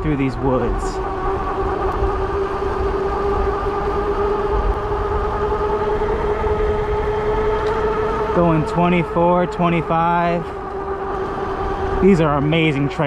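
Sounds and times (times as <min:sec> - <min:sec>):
electric bike hum: 0:00.0 - 0:13.0
wind rumble on microphone: 0:00.0 - 0:13.0.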